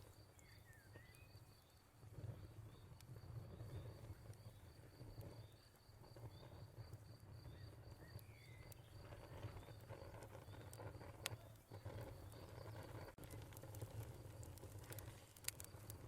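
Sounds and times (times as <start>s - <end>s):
crickets chirping: 0.0s - 16.0s
wood fire crackling and popping: 0.0s - 16.0s.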